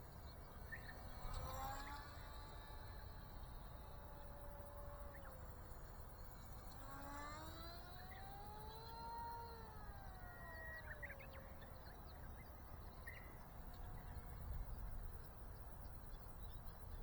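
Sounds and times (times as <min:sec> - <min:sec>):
electric model plane motor whine: 0:00.0 - 0:17.0.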